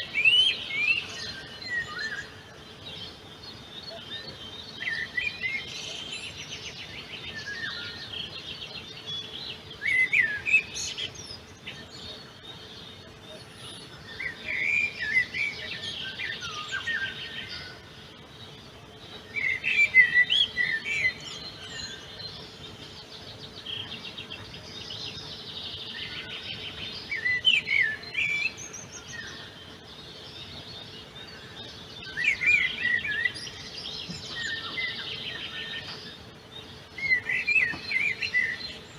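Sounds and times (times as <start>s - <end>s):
faint bird chirps and trills: 0.0s - 38.9s
loud bird song phrases: 0.0s - 38.9s.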